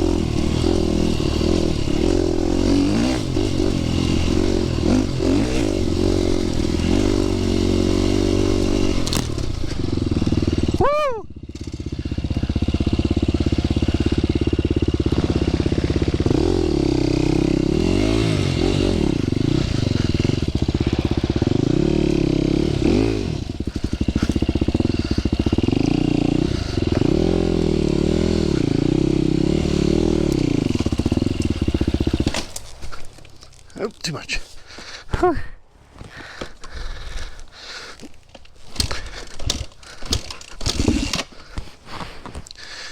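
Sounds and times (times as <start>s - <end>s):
dirt bike engine revving: 0.0s - 33.9s, 36.2s - 42.9s.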